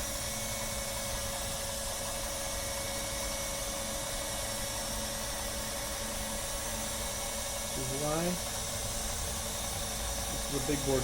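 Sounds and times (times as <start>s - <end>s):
soldering machine hiss and hum: 0.0s - 11.0s.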